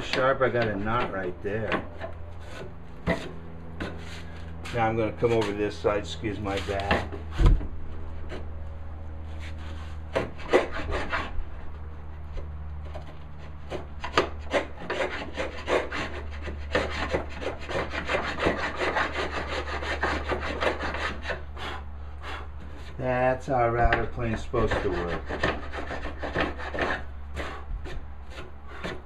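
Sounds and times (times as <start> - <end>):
router plane scraping wood: 0.0 - 7.4, 9.2 - 29.0.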